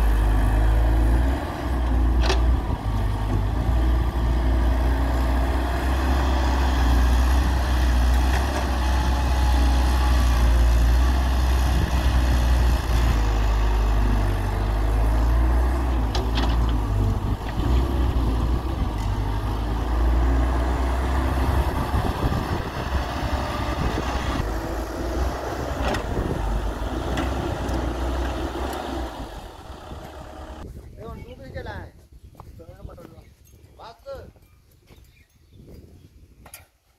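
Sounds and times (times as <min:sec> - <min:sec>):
excavator diesel engine running: 0:00.0 - 0:30.6.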